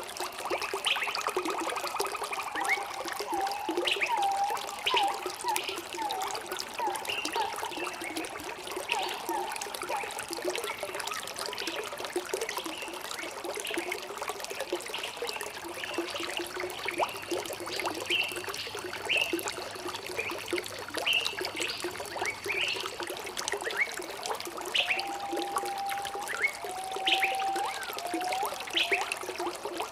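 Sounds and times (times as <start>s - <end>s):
water trickling and gurgling: 0.0s - 29.9s.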